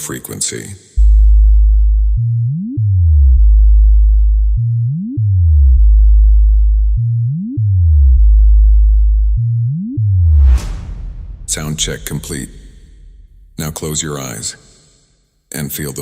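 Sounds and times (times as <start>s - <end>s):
deep bass test tone: 1.0s - 14.1s.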